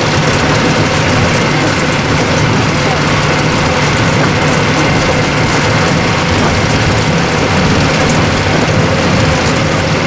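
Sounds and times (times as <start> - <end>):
train engine hum: 0.0 - 10.0
wheels rumbling on rail: 0.0 - 10.0.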